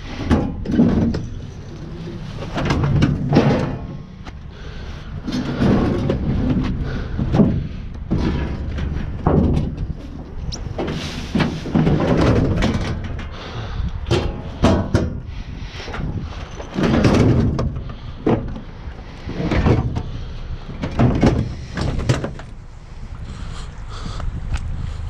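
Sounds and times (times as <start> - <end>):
metal scraping on truck bed: 0.0 - 22.8.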